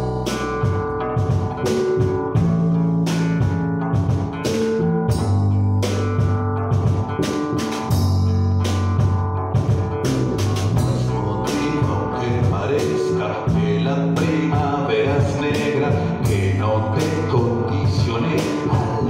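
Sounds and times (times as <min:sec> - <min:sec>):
drum kit beat: 0:00.0 - 0:19.0
electric bass guitar: 0:00.0 - 0:19.0
strummed acoustic guitar: 0:00.0 - 0:19.0.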